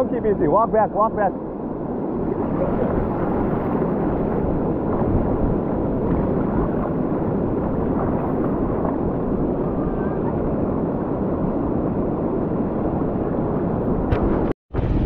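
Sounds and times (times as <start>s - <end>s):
surf washing: 0.0s - 15.0s
wind rumbling on microphone: 0.0s - 15.0s.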